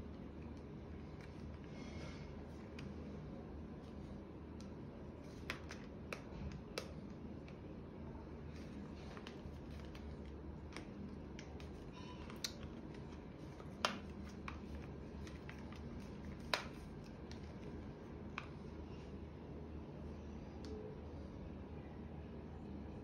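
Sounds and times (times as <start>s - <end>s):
faint handling noise: 0.1s - 19.2s.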